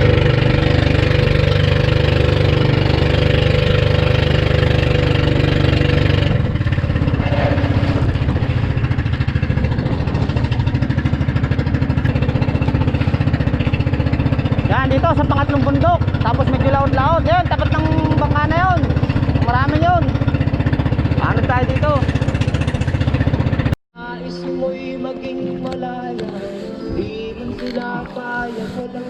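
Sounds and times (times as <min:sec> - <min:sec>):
small boat engine running: 0:00.0 - 0:23.8.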